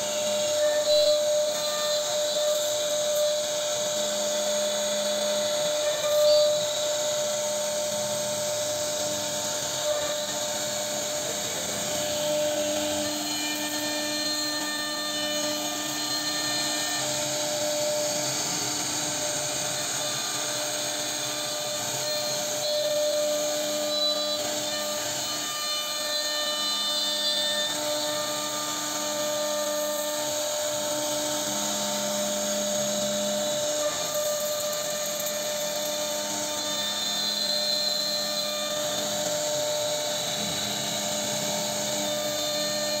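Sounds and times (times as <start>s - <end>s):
router spindle whine cutting wood: 0.0s - 43.0s.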